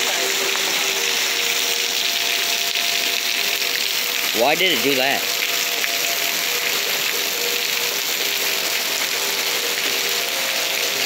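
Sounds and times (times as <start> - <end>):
distant warning sirens: 0.0 - 11.0
heavy rain running off gutters: 0.0 - 11.0.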